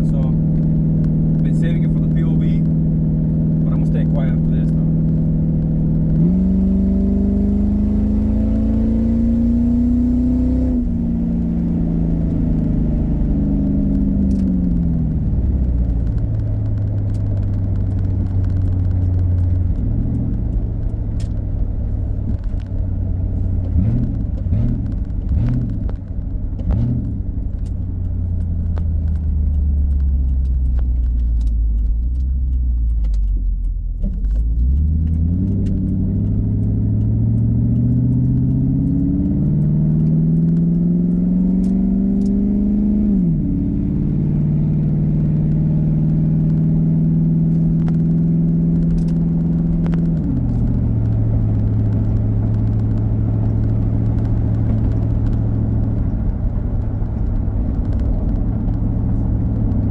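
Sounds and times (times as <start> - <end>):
car engine revving inside cabin: 0.0 - 59.9.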